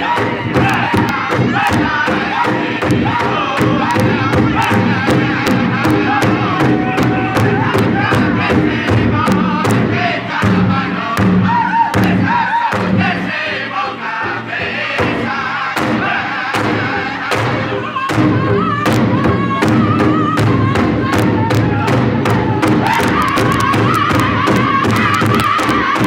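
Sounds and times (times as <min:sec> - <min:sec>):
large drum beating: 0:00.0 - 0:13.3, 0:14.2 - 0:26.0
men singing together: 0:00.0 - 0:26.0.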